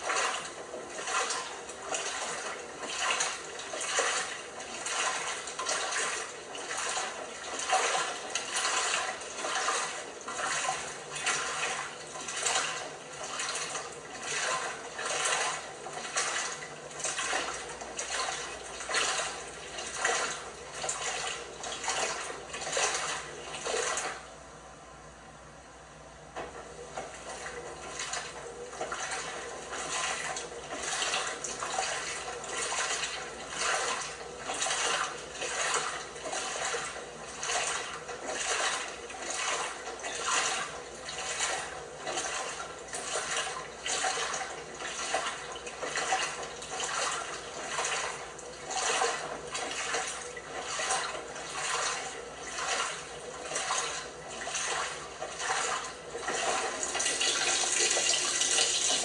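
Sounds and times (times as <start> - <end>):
water sloshing in washing machine: 0.0 - 24.6, 26.2 - 59.0.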